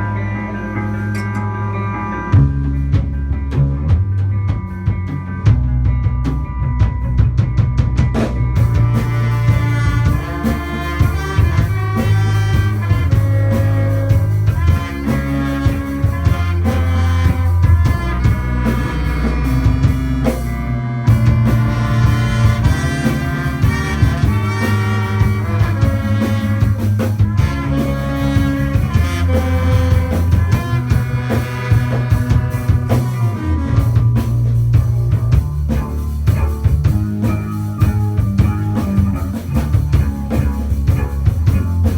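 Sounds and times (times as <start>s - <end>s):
horn section: 0.0s - 2.7s, 8.6s - 41.9s
bass guitar: 0.0s - 41.9s
drum kit: 0.0s - 41.9s
electric guitar: 0.0s - 41.9s
synthesizer: 0.0s - 41.9s.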